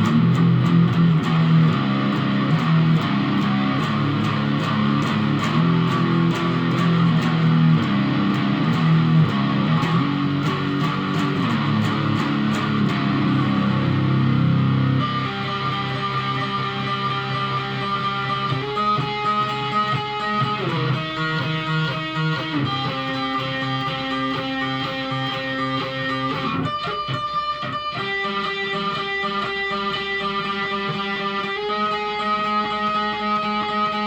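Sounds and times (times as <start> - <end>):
guitar chords: 0.0 - 34.0.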